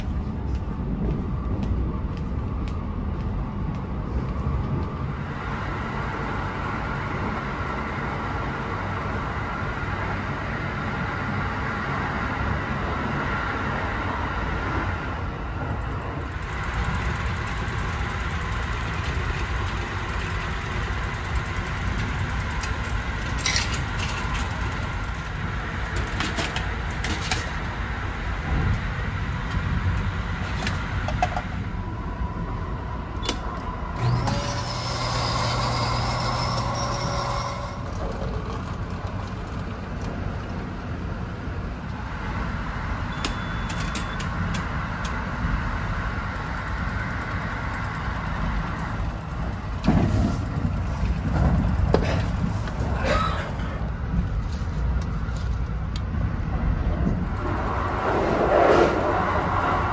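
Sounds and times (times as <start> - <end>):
machine hum with whir: 0.0 - 59.9
train running noise: 0.0 - 59.9.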